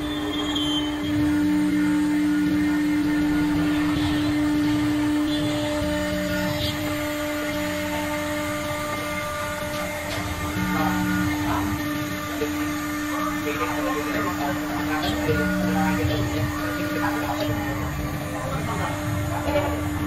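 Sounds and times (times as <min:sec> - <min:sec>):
router spindle whine: 0:00.0 - 0:20.0.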